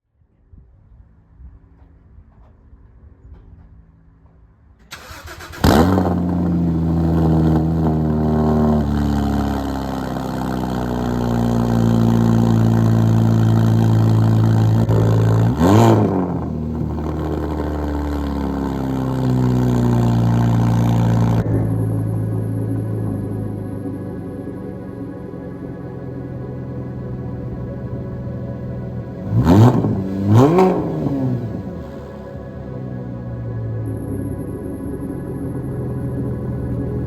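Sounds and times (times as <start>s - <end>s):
car engine starting and idling: 4.8s - 37.0s.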